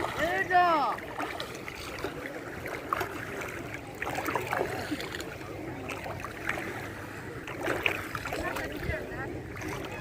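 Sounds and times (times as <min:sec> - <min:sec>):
sea and surf: 0:00.0 - 0:10.0.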